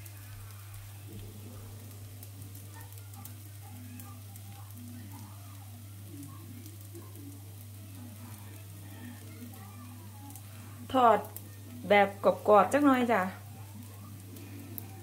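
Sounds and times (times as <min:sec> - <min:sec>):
faint crackles: 0:00.0 - 0:15.0
pancake sizzling in frying pan: 0:00.0 - 0:15.0.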